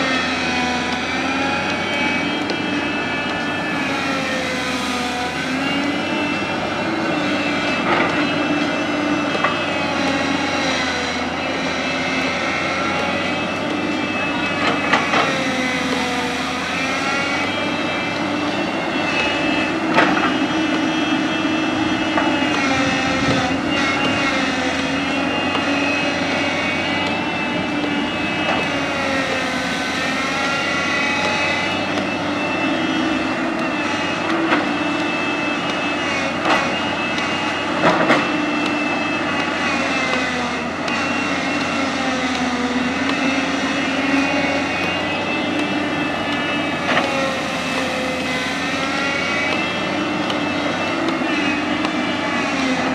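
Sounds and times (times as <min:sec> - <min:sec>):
excavator diesel engine: 0:00.0 - 0:52.9
hydraulic whine: 0:00.0 - 0:52.9.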